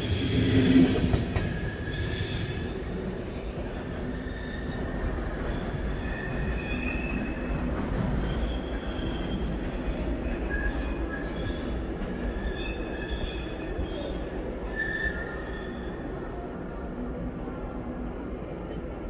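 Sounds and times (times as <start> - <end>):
train wheels squealing: 0.0 - 16.4
train low rumble: 0.0 - 19.0.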